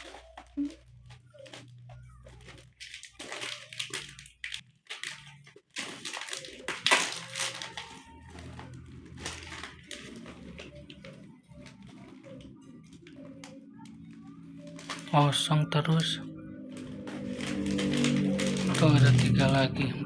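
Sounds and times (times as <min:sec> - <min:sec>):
plastic packets crinkling and tearing: 0:00.0 - 0:19.7.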